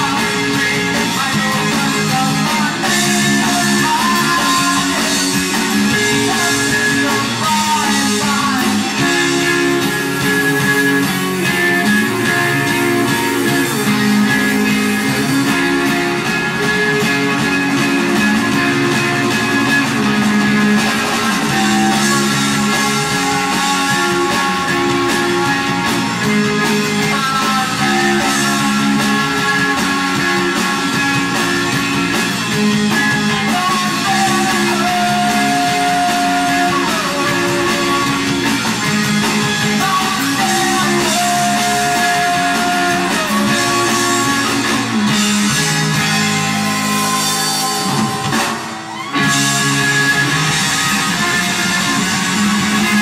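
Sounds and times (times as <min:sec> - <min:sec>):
bass guitar: 0:00.0 - 0:53.0
drum kit: 0:00.0 - 0:53.0
electric guitars: 0:00.0 - 0:53.0.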